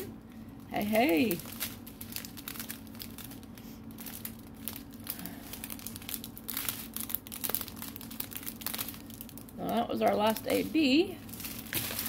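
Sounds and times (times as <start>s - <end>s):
plastic bags crinkling: 0.0s - 12.0s
steady low hum: 0.0s - 12.0s.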